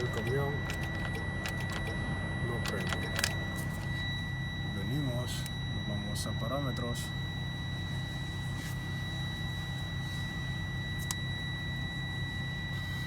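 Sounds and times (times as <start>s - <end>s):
high-pitched warning buzzer: 0.0s - 13.0s.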